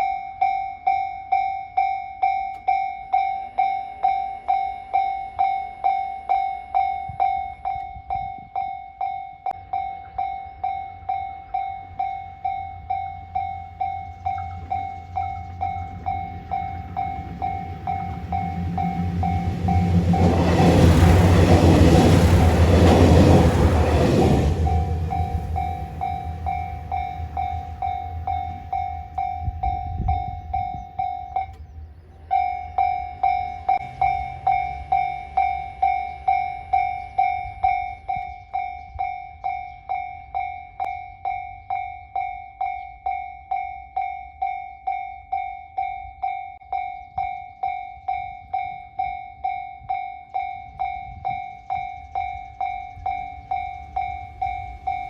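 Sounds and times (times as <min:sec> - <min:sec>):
level crossing bell ringing: 0:00.0 - 0:31.6, 0:32.3 - 0:55.0
train rumble: 0:09.4 - 0:55.0.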